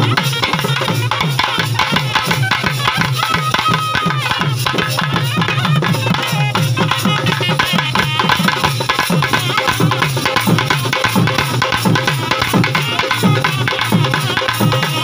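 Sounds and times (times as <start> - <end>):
hand-struck drums fast rhythm: 0.0 - 15.0.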